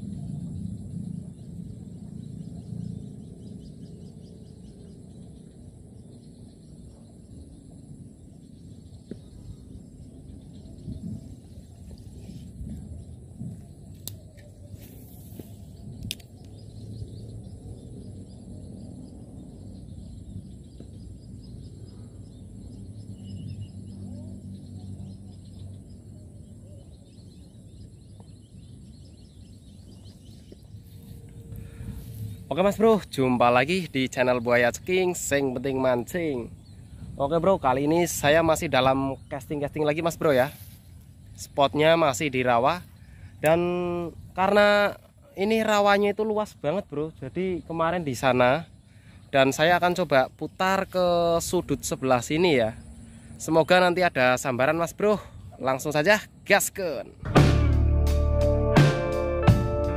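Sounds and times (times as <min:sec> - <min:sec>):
low steady rumble: 0:00.0 - 0:55.5.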